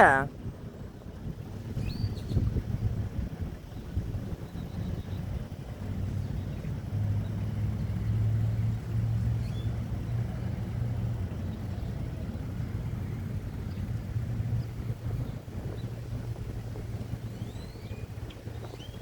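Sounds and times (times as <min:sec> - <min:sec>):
vehicle engine hum: 0:00.8 - 0:19.0.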